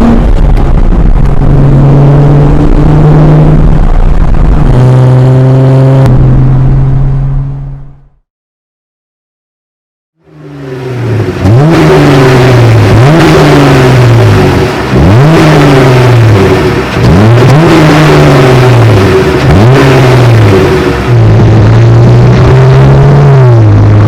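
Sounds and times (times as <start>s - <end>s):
car engine revving: 0.0s - 8.2s, 10.2s - 24.0s.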